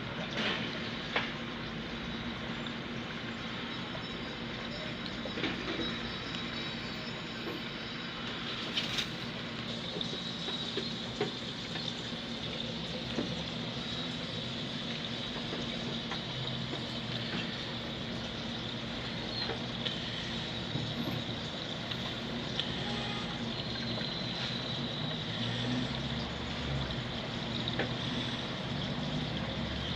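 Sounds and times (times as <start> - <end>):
aquarium filter hum: 0.0 - 29.9
water trickling: 0.0 - 29.9.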